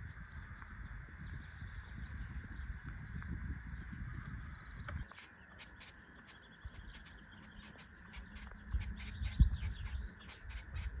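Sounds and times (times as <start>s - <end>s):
birds chirping and singing: 0.0s - 11.0s
steady outdoor hiss: 0.0s - 11.0s.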